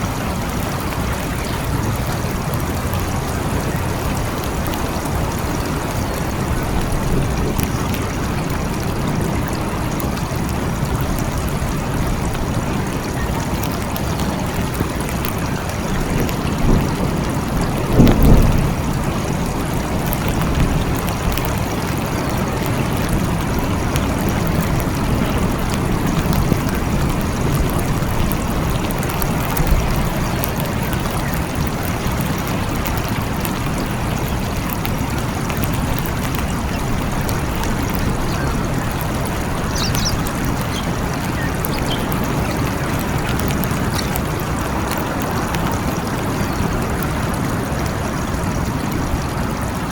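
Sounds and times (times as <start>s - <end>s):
thunder rumble: 0.0s - 49.8s
heavy rain falling: 0.0s - 49.9s.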